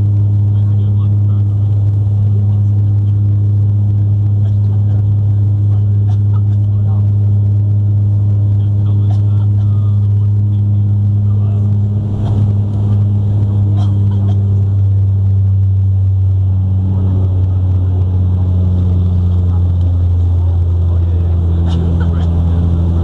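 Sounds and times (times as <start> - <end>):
propeller drone in cabin: 0.0 - 23.0.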